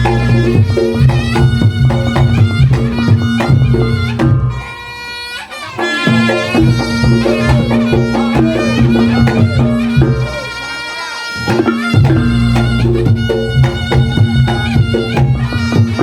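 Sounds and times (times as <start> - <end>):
drums: 0.0 - 16.0
reedy wind instrument droning melody: 0.0 - 16.0
struck percussion: 0.0 - 16.0.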